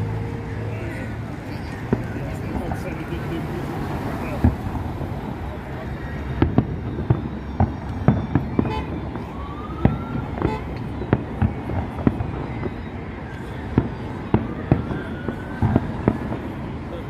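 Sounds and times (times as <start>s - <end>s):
fireworks bursting with sharp bangs: 0.0s - 17.0s
rising firework whistle: 1.9s - 16.9s.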